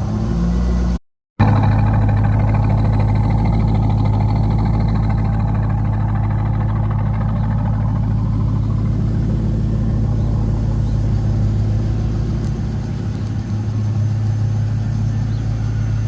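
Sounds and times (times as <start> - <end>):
car engine idling: 1.4 - 16.0.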